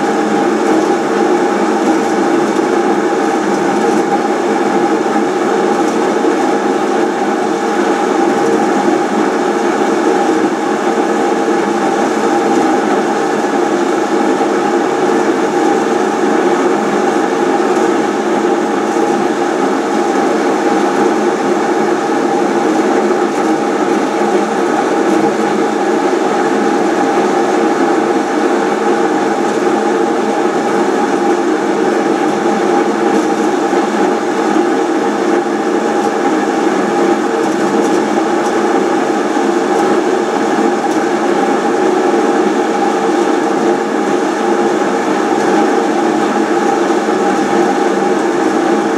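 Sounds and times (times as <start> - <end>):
machine humming and whining: 0.0 - 48.9.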